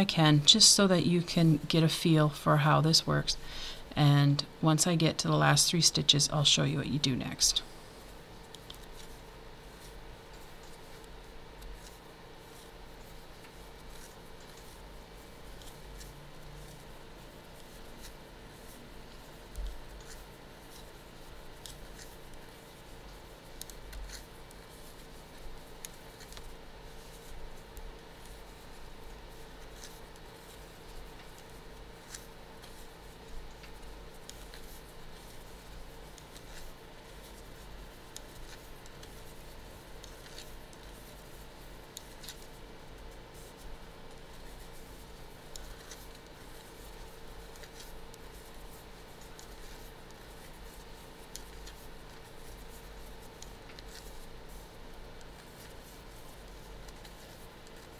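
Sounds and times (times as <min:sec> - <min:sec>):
faint steady hum: 0:00.0 - 0:57.9
yarn being handled: 0:07.2 - 0:57.9.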